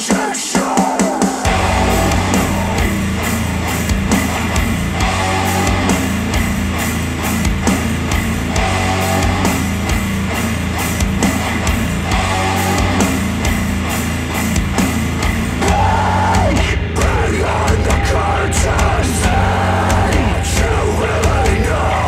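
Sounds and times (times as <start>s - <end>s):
death metal music through speakers: 0.0s - 22.0s.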